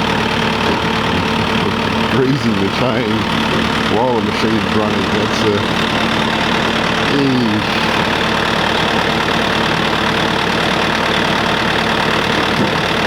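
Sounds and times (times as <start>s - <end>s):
concrete mixer running: 0.0s - 13.0s.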